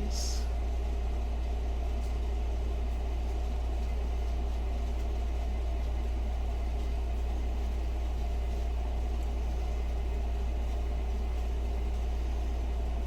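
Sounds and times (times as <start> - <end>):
electric kettle humming: 0.0 - 13.0.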